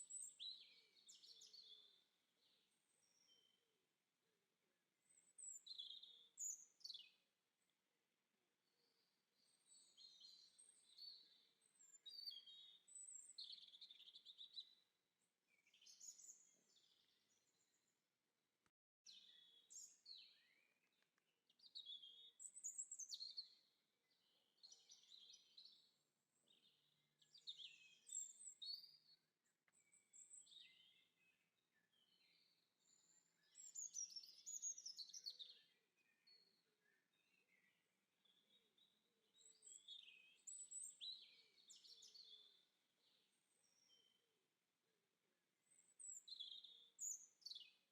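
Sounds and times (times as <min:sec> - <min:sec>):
songbird chirping and warbling: 0:00.0 - 0:03.6, 0:05.1 - 0:07.2, 0:08.7 - 0:14.8, 0:15.5 - 0:17.8, 0:19.1 - 0:44.2.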